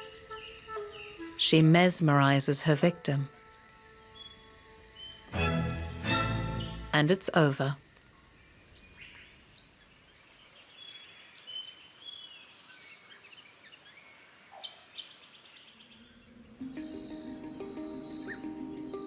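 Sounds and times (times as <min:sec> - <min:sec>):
high insect trill: 0:00.0 - 0:19.0.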